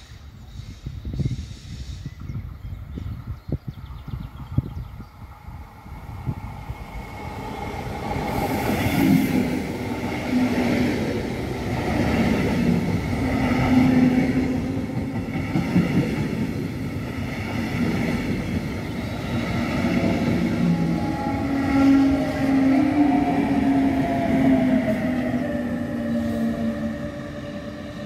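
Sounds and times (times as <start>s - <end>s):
train passing: 4.2s - 28.0s.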